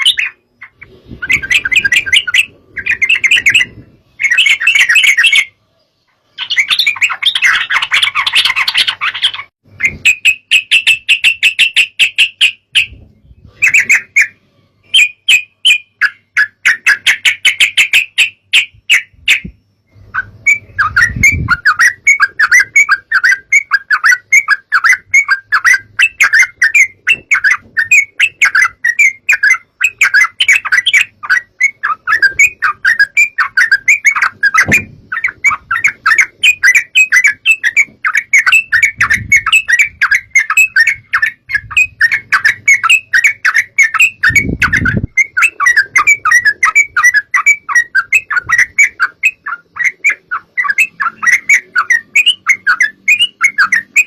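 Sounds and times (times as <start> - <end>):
bird chirping chatter: 0.0 - 54.0.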